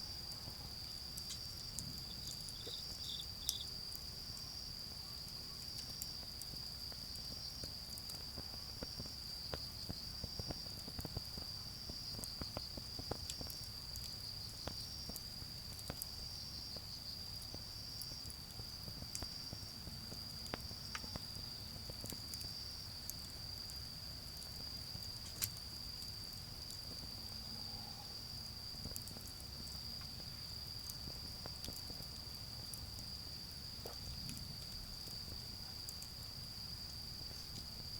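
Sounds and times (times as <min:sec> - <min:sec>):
insects trilling: 0:00.0 - 0:37.9
charcoal fire crackling: 0:00.1 - 0:37.9.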